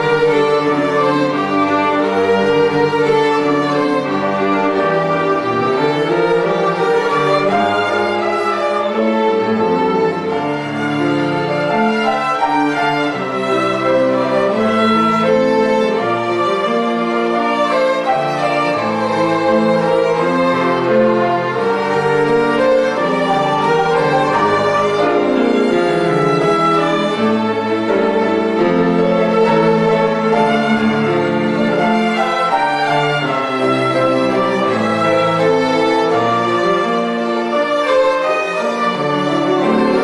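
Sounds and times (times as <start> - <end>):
bowed strings playing: 0.0 - 40.0.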